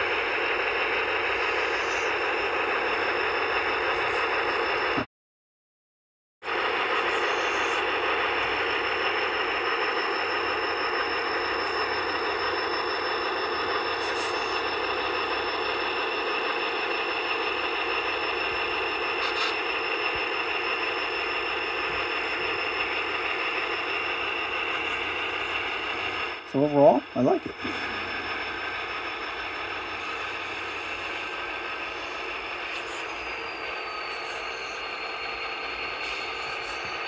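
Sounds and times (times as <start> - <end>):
model train engine sound from speakers: 0.0 - 5.1, 6.4 - 37.0.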